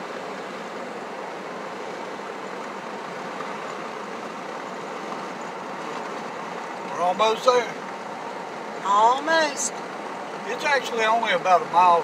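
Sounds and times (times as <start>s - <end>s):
car engine running: 0.0s - 12.0s
tyres on asphalt: 0.0s - 12.0s.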